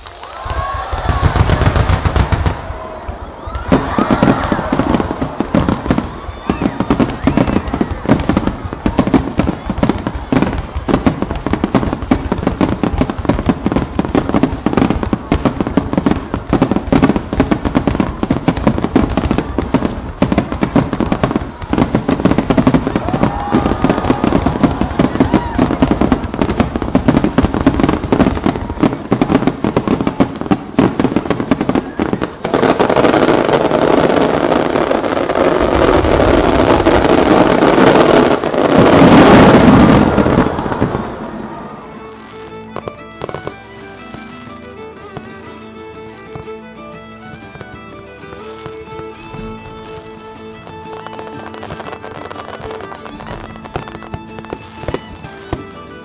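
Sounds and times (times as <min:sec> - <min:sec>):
ground fountain fireworks rushing: 0:00.0 - 0:56.0.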